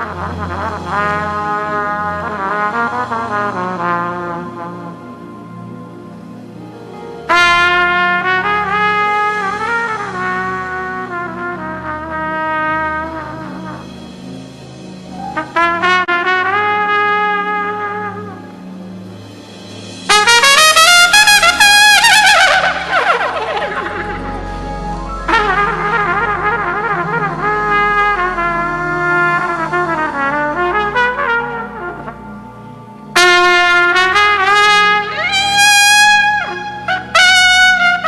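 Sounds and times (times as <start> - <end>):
trumpet playing: 0.0 - 5.9, 7.2 - 18.8, 20.1 - 38.0
soft band accompaniment: 0.0 - 38.0.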